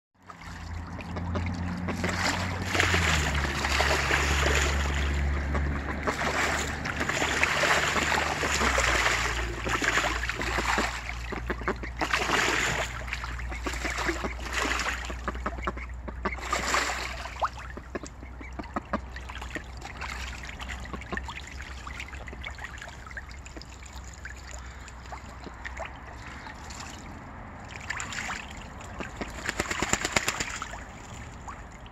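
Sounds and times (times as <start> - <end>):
ducks splashing water: 0.2 - 31.9
water trickling: 0.2 - 31.9.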